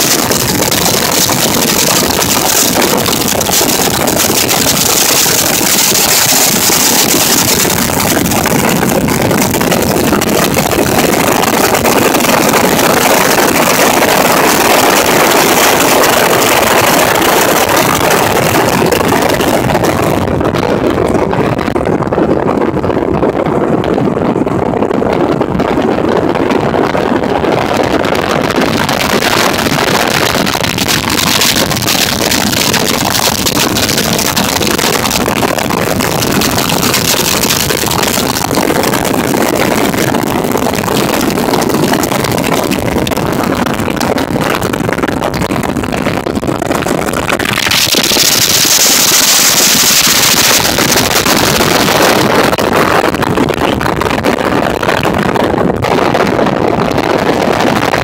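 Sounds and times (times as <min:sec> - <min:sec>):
outboard motor running: 0:00.0 - 0:55.0
rush of wind and water: 0:00.0 - 0:58.0.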